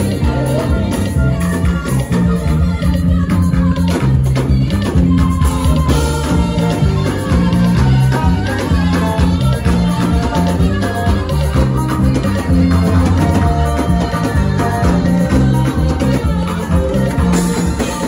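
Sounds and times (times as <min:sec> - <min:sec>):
bass line: 0:00.0 - 0:18.0
drum kit with cymbals: 0:00.0 - 0:18.0
live band playing groove: 0:00.0 - 0:18.0.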